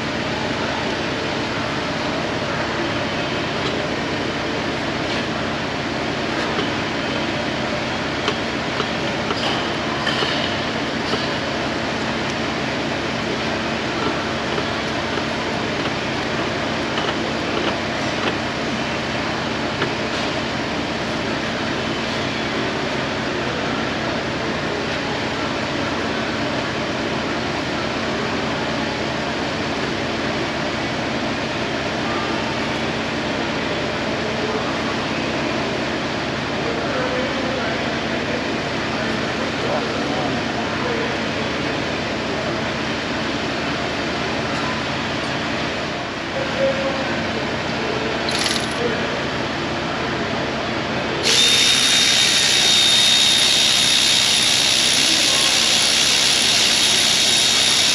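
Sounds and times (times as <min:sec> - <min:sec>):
loud mechanical rumble: 0:00.0 - 0:57.9.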